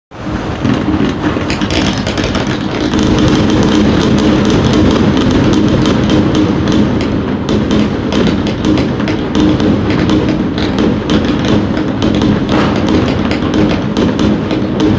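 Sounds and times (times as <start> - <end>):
fireworks bangs and crackles: 0.1 - 14.9.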